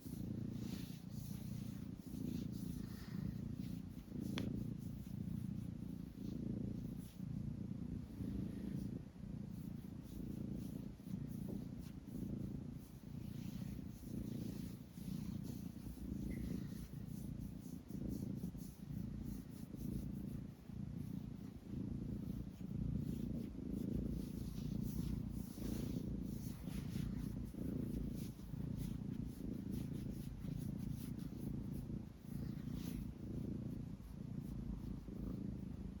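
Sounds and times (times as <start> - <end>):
cat purring: 0.0 - 36.0.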